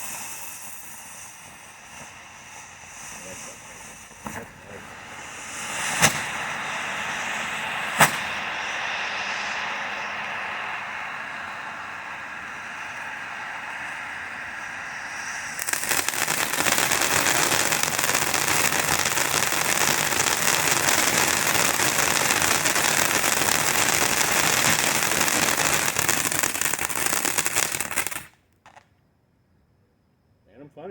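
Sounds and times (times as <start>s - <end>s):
firework fountain hissing crackle: 0.0s - 28.9s.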